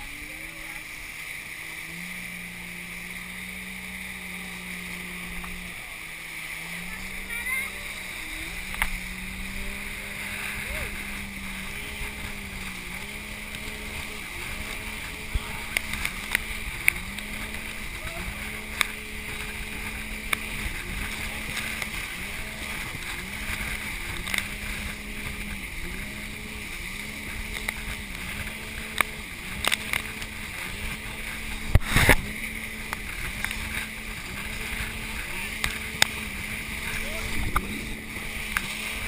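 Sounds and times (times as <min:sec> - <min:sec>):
low motorboat hum: 0:00.0 - 0:39.0
wind and water rushing: 0:00.0 - 0:39.0.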